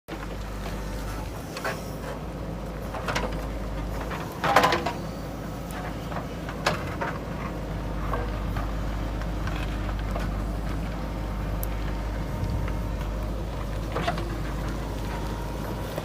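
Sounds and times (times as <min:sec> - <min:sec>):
diesel engine running: 0:00.1 - 0:16.0.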